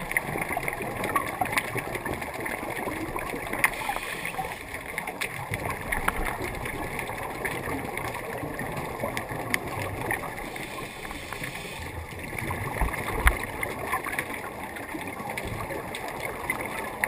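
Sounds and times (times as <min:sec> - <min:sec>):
regulator breathing and bubbles: 0:00.0 - 0:17.0.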